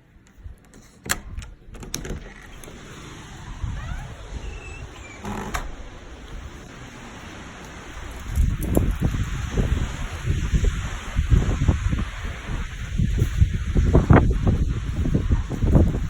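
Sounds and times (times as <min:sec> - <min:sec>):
wind and rain rushing: 0:00.3 - 0:16.0.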